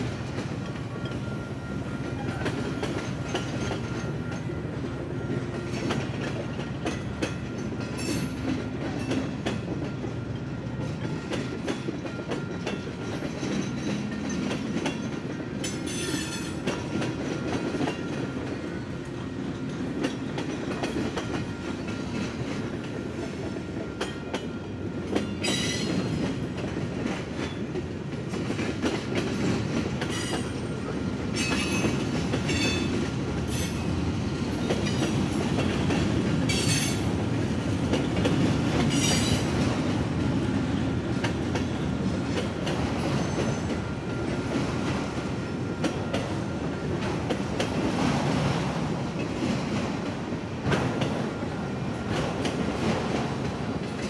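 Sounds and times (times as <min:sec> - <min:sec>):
freight train rumbling: 0:00.0 - 0:54.0
wheels clacking on rail joints: 0:00.0 - 0:54.0.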